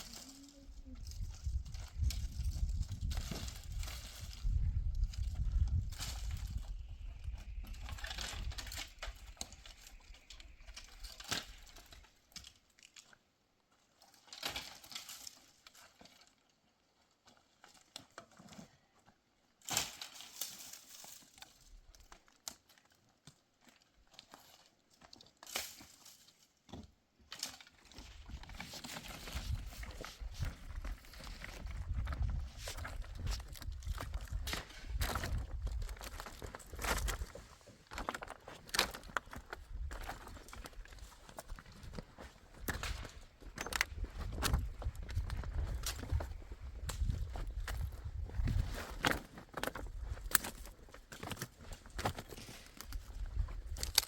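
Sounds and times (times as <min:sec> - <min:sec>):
rustling and crinkling: 0:00.0 - 0:54.0.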